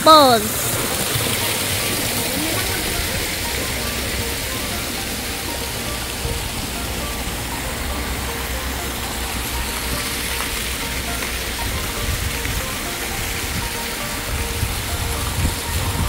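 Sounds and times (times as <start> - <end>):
fountain jets: 0.0 - 16.0
waterfall rushing and splashing: 0.0 - 16.0.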